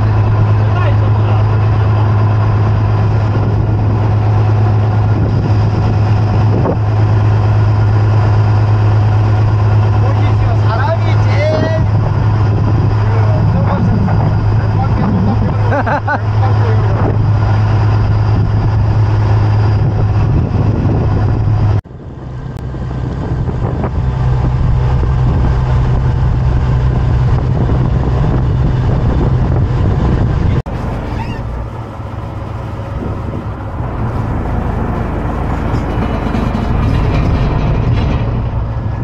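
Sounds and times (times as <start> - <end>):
boat engine droning: 0.0 - 39.0
water noise: 0.0 - 39.0
wind: 0.0 - 39.0.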